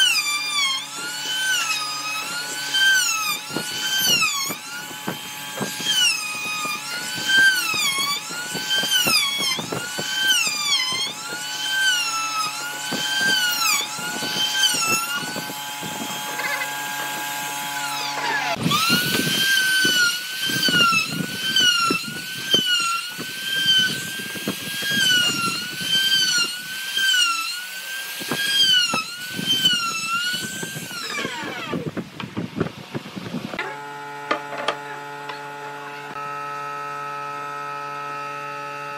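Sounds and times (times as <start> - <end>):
trim router cutting wood: 0.0 - 38.9.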